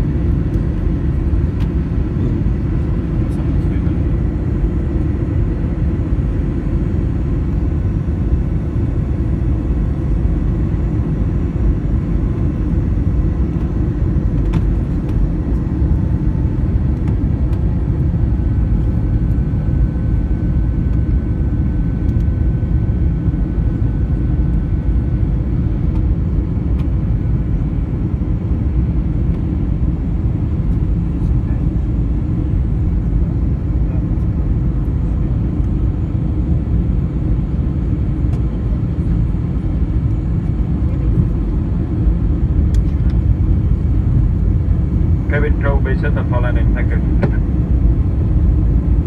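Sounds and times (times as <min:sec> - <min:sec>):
aircraft cabin engine rumble: 0:00.0 - 0:49.0.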